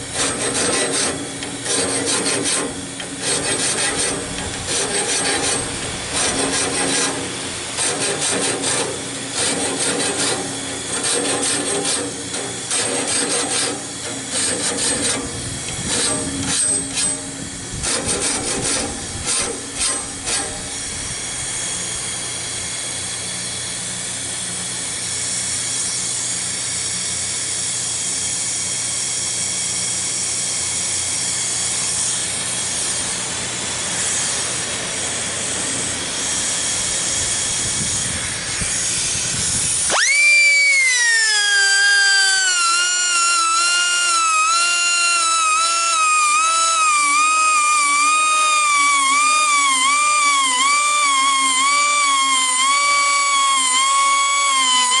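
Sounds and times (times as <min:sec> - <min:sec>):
air tool grinding with high whine: 0:00.0 - 0:55.0.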